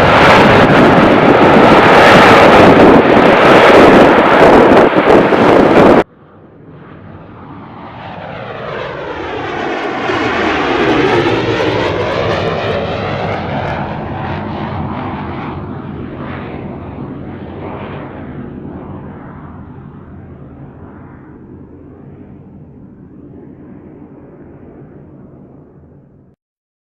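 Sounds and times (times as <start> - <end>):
airliner passing overhead: 0.0 - 26.4.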